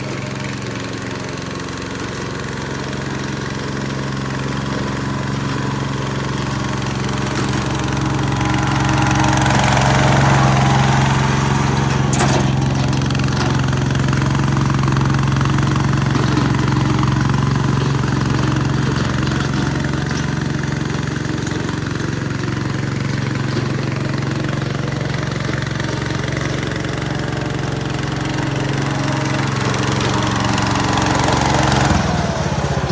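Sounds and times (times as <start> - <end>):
garden tractor engine running: 0.0 - 32.9.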